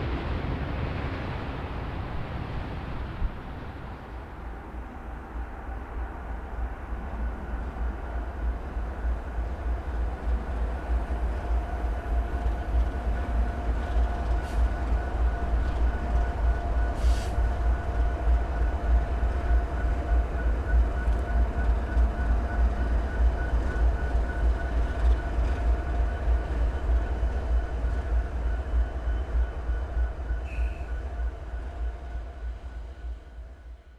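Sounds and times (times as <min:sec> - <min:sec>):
train rumbling past: 0:00.0 - 0:33.9.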